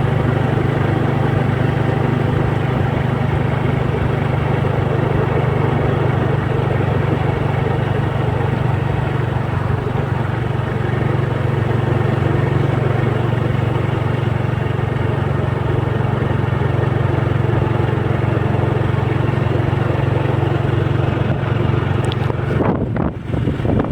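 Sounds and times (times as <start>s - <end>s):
steady engine drone: 0.0s - 23.9s.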